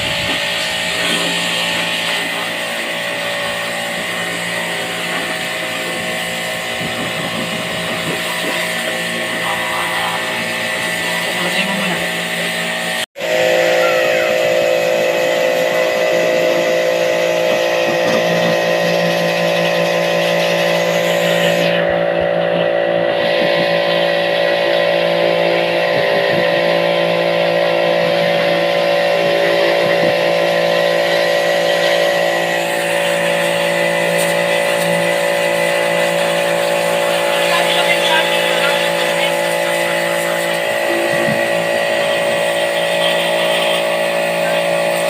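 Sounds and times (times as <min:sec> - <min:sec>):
machine motor droning: 0:00.0 - 0:45.0.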